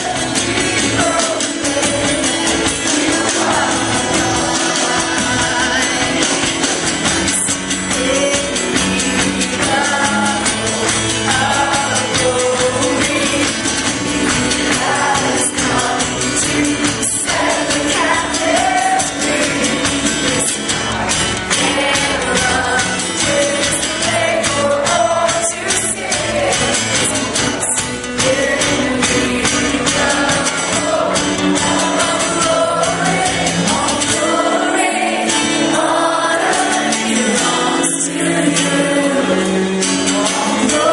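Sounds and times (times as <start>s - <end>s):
instrumental accompaniment: 0.0s - 40.9s
voices singing worship music: 0.0s - 40.9s.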